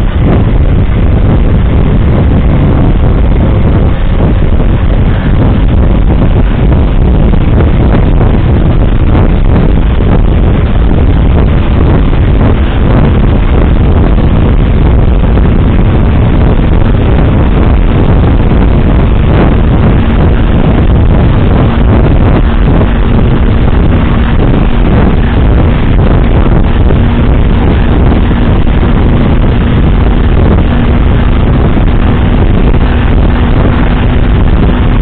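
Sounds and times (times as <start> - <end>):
vehicle engine and road noise: 0.0 - 35.0
wind rumble on microphone: 0.0 - 35.0.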